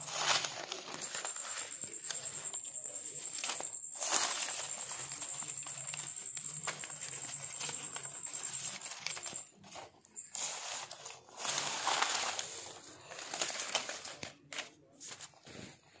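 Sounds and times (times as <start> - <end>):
paper banknotes rustling: 0.0 - 16.0.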